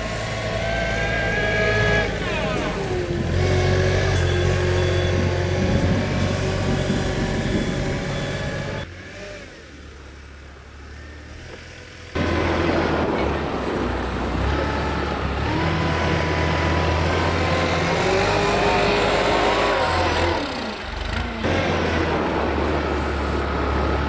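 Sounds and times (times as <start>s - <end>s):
wheel loader diesel engine: 0.0s - 24.0s.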